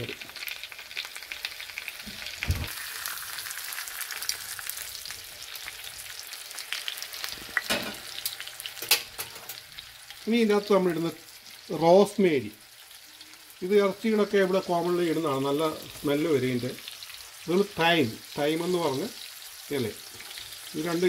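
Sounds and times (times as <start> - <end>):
steak sizzling in a frying pan: 0.0 - 21.0.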